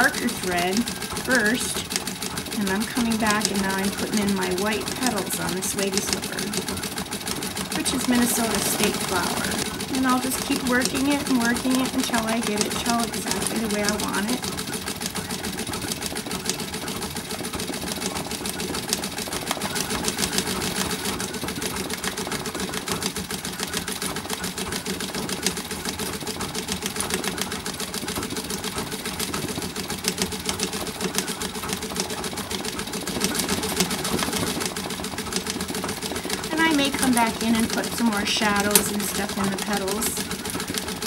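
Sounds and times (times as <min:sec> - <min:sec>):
treadle sewing machine ticking: 0:00.0 - 0:41.0.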